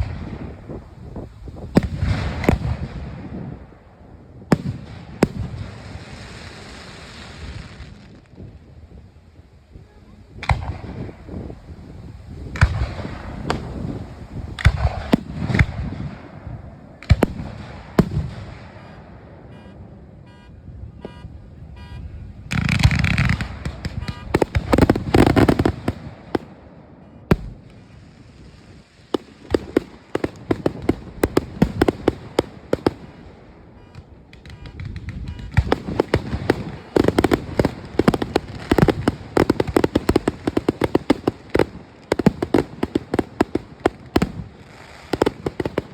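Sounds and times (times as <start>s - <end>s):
fireworks bursting and crackling: 0.0s - 8.6s, 10.4s - 19.3s, 22.5s - 45.9s.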